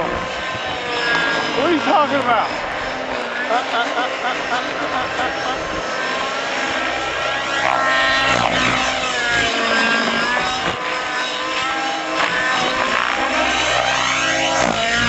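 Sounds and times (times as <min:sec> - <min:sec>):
model plane engine in flight: 0:00.0 - 0:15.0.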